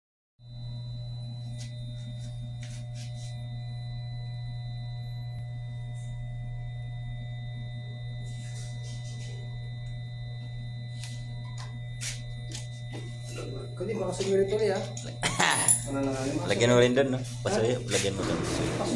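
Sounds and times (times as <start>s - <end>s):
faint high whine: 0.4s - 18.9s
steady low hum: 0.4s - 18.9s.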